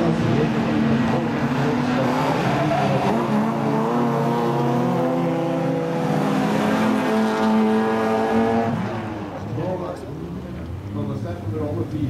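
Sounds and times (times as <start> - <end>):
racing car engines at high revs: 0.0 - 12.0.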